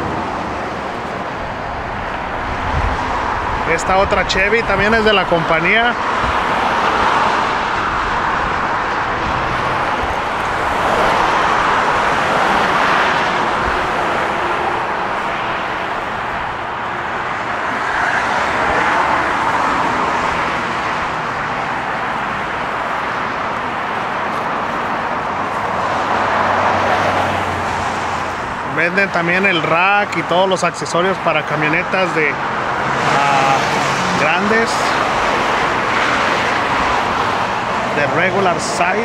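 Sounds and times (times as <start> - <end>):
tyres rushing on road: 0.0 - 39.0.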